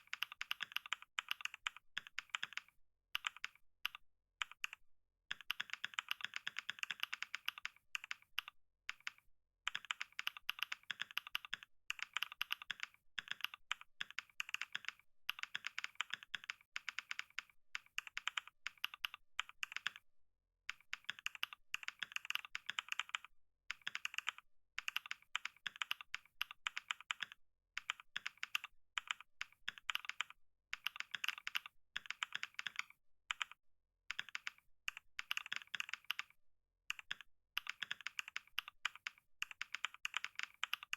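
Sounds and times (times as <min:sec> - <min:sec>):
fast typing on keyboard: 0:00.0 - 0:20.0, 0:20.7 - 0:40.9.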